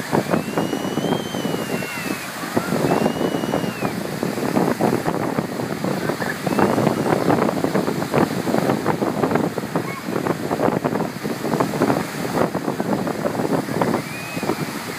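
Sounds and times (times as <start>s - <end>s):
waves breaking on sandy beach: 0.0s - 14.9s
wind buffeting microphone: 0.0s - 14.9s.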